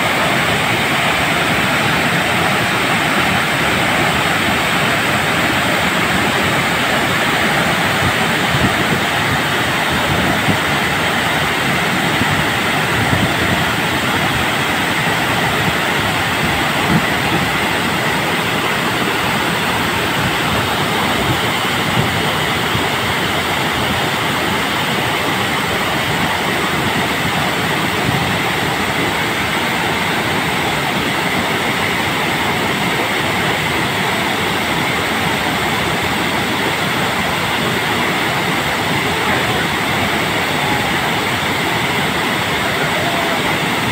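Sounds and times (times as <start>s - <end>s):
water rushing down dam spillway: 0.0s - 43.9s.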